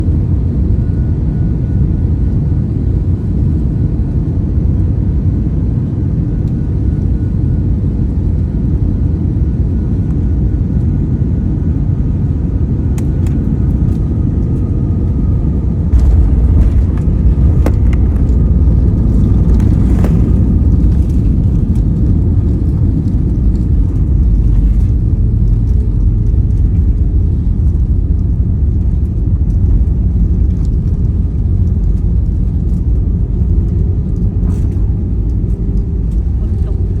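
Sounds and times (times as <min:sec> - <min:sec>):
airliner low rumble: 0:00.0 - 0:37.0.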